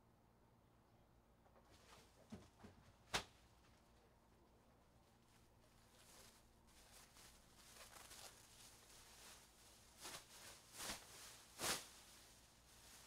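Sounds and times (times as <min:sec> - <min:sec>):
faint rustling and handling: 0:01.5 - 0:13.0.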